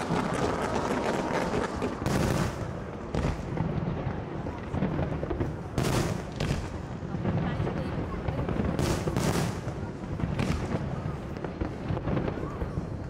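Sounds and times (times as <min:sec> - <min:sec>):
fireworks bangs and crackles: 0:00.0 - 0:13.0
sharp loud firework reports: 0:00.0 - 0:13.0.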